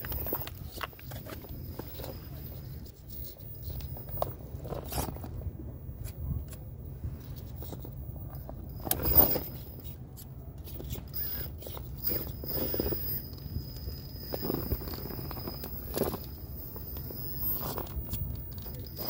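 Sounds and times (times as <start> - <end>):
toy car scraping against rock: 0.0 - 5.4, 7.2 - 19.0
steady low hum: 0.0 - 19.0.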